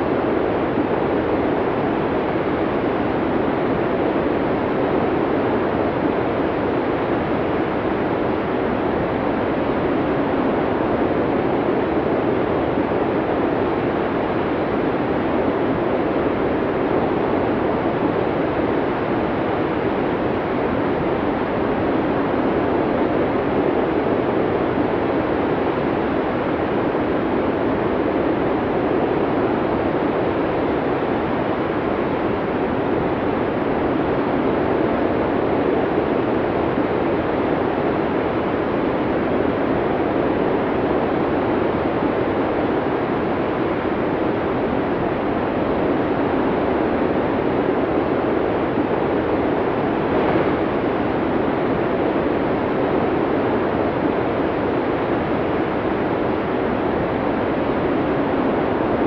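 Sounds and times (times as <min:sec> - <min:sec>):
snowstorm wind blowing hard: 0:00.0 - 0:59.0.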